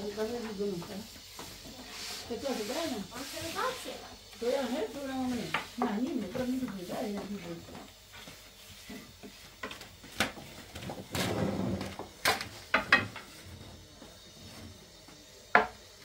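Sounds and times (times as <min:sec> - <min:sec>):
rolling pins rolling dough: 0:00.0 - 0:15.8.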